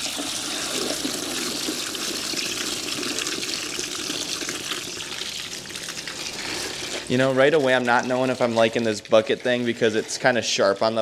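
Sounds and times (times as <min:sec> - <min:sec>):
water from hose into bucket: 0:00.0 - 0:11.0.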